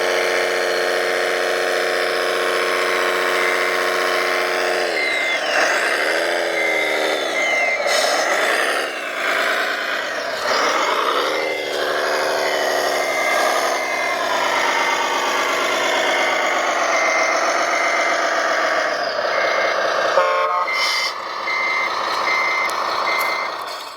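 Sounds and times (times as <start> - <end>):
engine noise: 0.0 - 23.9
reversing beeper: 2.0 - 23.7.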